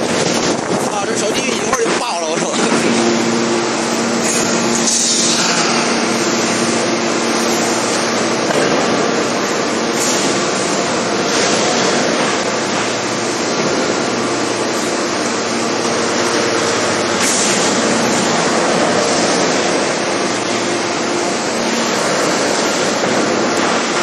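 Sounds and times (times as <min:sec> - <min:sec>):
forging machinery humming: 0:00.0 - 0:24.0.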